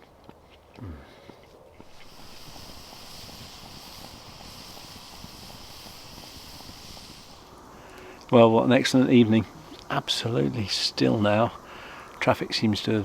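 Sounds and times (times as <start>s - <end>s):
campfire hissing: 0.8s - 13.0s
fire crackles: 1.0s - 13.0s.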